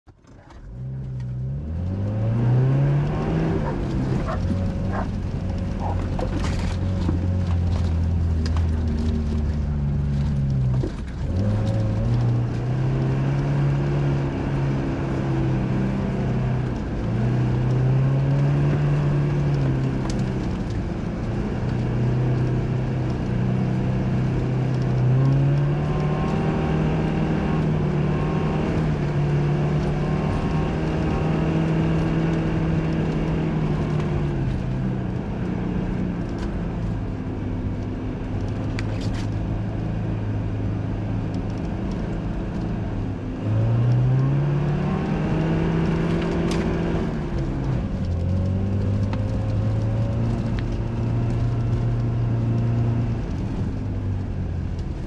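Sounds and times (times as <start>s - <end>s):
suv engine revving: 0.3s - 55.0s.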